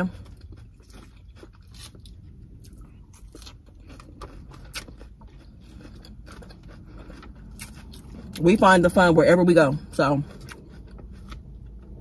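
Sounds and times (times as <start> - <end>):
chewing crisp salad greens: 0.0 - 12.0
low steady rumble: 0.0 - 12.0.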